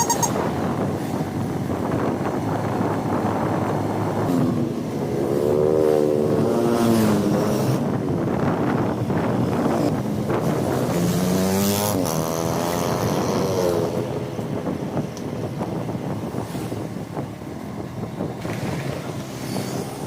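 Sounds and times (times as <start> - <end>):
road noise: 0.0 - 20.0
vehicle engine: 0.0 - 20.0
wind on microphone: 0.0 - 20.0.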